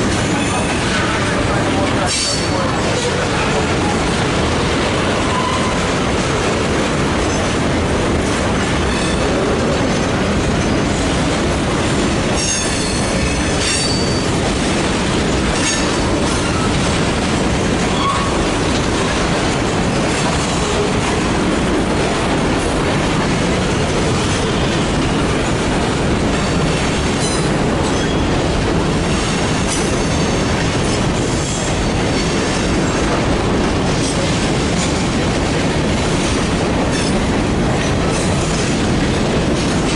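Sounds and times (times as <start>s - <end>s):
freight train cars rolling: 0.0s - 39.9s
wheels clacking over rail joints: 0.0s - 39.9s.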